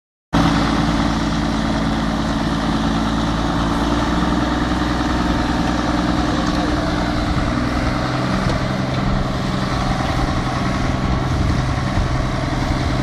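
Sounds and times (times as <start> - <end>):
tractor diesel engine running: 0.4 - 13.0.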